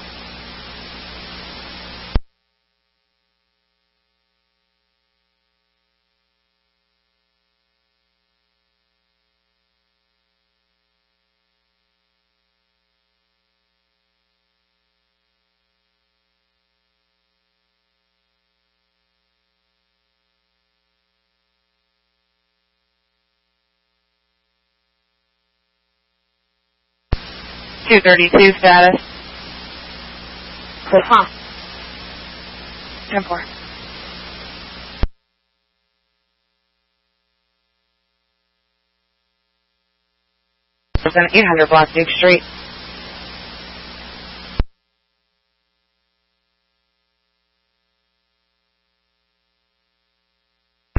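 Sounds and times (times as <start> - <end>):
faint steady hum: 0.0 - 50.9
radio static hiss: 0.0 - 50.9.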